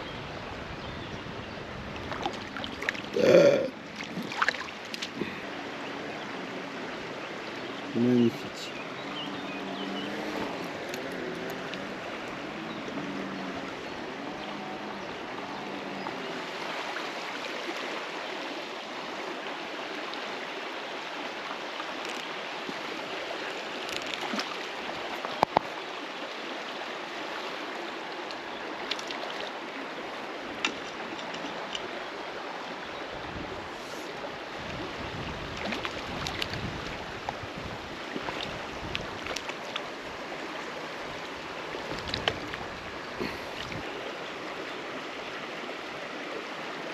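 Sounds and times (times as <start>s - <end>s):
river water rushing over rocks: 0.0s - 46.9s.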